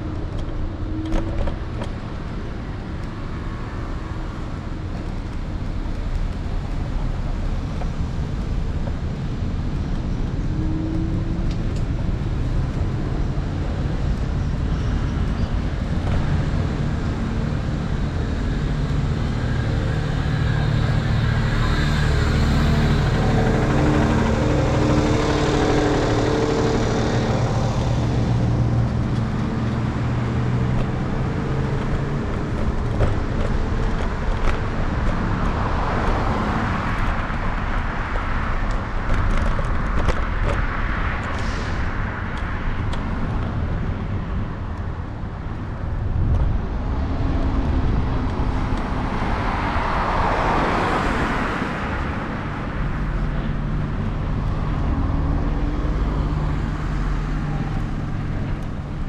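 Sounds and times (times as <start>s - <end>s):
passing cars: 0.0s - 59.0s
vehicle engine humming: 0.0s - 59.0s.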